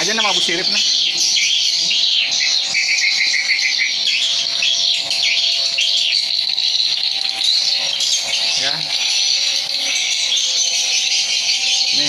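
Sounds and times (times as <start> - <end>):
swiftlets chirping and twittering: 0.0 - 12.0.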